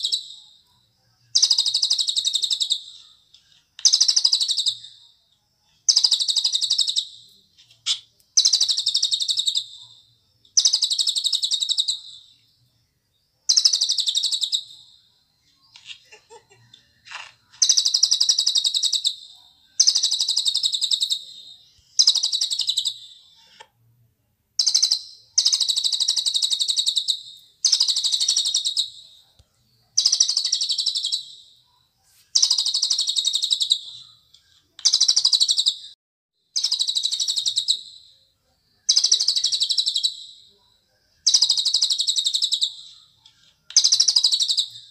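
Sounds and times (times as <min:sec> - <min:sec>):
bird trilling song: 0:00.0 - 0:23.7, 0:24.6 - 0:44.9.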